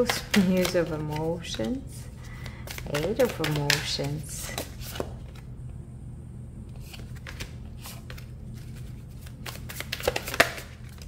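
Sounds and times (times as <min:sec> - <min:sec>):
cards shuffled by hand: 0:00.0 - 0:05.4, 0:06.7 - 0:11.0.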